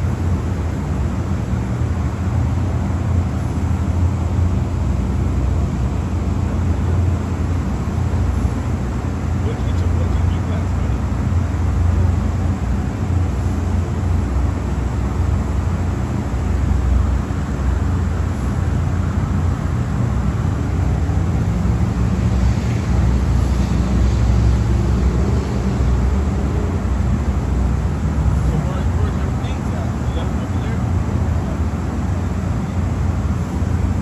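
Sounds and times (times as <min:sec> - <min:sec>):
car wash machinery drone: 0:00.0 - 0:34.0.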